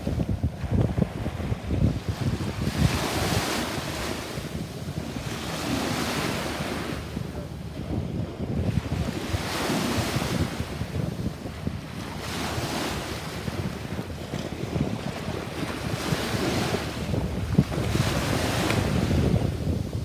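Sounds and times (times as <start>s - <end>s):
small waves washing on shore: 0.0s - 20.0s
wind buffeting microphone: 0.0s - 20.0s.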